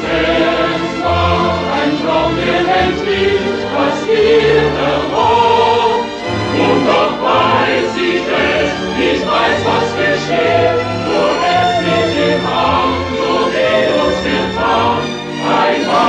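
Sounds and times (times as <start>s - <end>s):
choir singing sustained notes: 0.0s - 16.0s
orchestral music: 0.0s - 16.0s.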